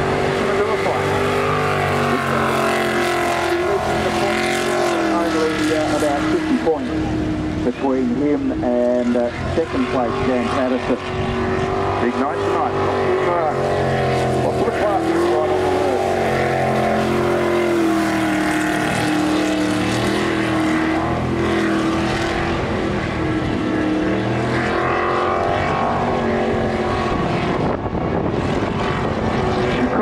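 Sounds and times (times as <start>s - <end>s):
boat engine at high revs: 0.0s - 30.0s.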